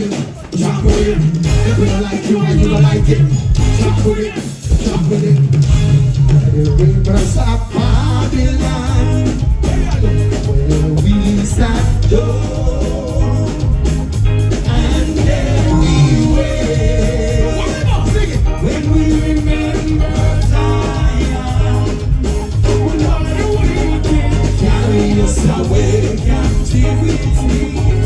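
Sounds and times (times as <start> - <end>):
live band music: 0.0 - 28.0
person singing: 0.0 - 28.0.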